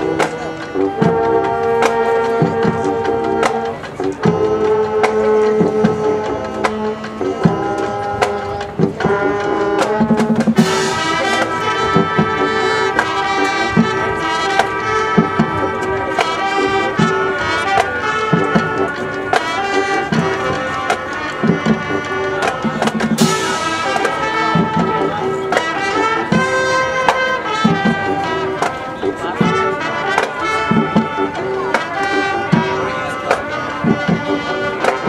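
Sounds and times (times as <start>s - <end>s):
marching drums: 0.0s - 35.0s
trumpets and trombones chords: 0.0s - 35.0s.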